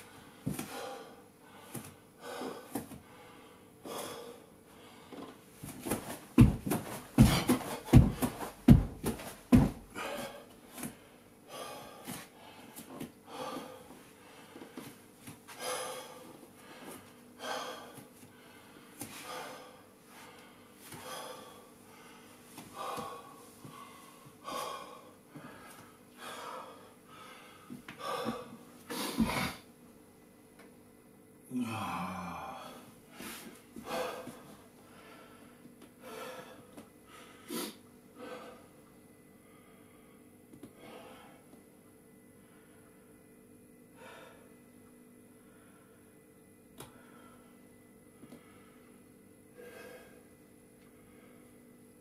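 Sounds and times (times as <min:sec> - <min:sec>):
man breathing hard: 0:00.0 - 0:29.7, 0:31.5 - 0:41.6, 0:44.0 - 0:44.5, 0:46.8 - 0:47.6, 0:49.5 - 0:50.3.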